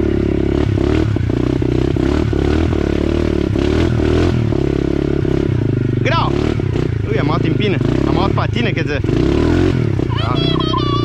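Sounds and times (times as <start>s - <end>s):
small dirt bike engine: 0.0s - 11.0s.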